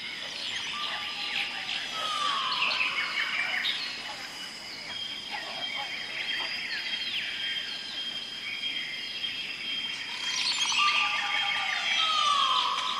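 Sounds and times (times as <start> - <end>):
birds chirping: 0.0 - 12.9
high insect drone: 0.0 - 12.9.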